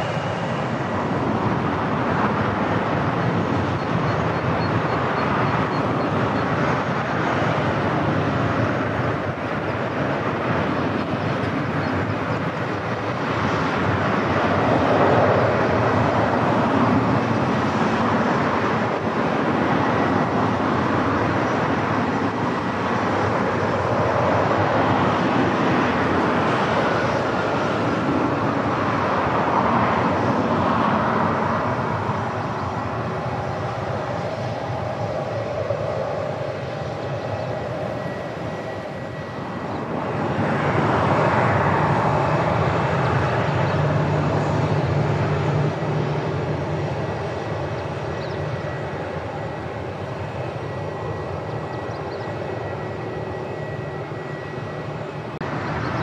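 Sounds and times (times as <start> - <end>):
faint high engine whine: 0.0 - 56.0
jet engines roaring: 0.0 - 56.0.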